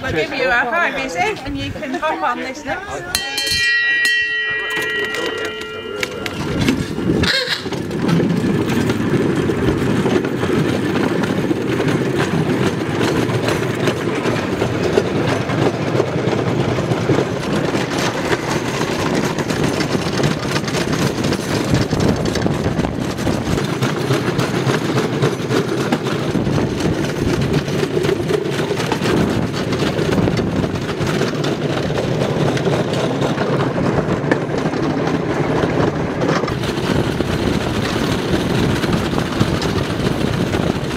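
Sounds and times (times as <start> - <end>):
steel wheels rumbling on rails: 0.0 - 40.9.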